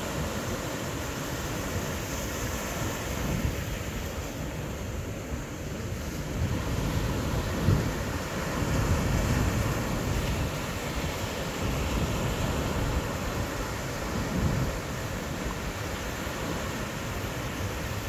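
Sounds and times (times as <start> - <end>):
waves washing onto rocks: 0.0 - 18.0
wind buffeting microphone: 1.6 - 18.0.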